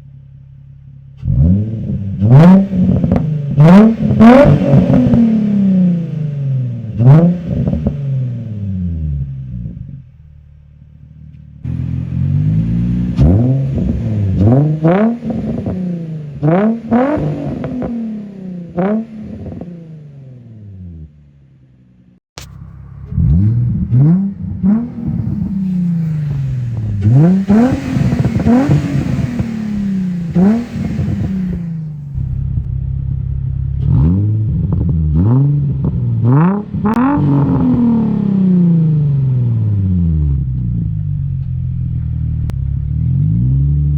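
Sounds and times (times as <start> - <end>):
car engine revving in blips: 1.1 - 10.2, 11.2 - 43.9.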